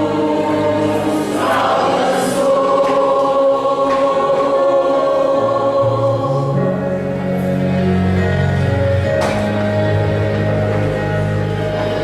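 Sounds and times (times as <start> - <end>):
choir holding sustained chord: 0.0 - 12.0
musical accompaniment: 0.0 - 12.0.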